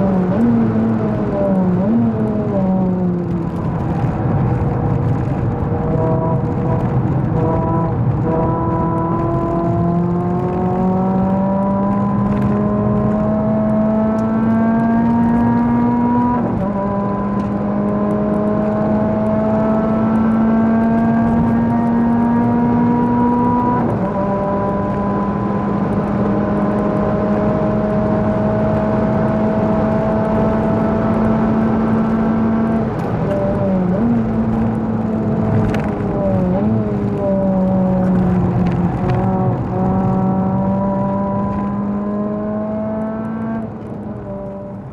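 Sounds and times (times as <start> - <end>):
car engine under full throttle: 0.0 - 44.9.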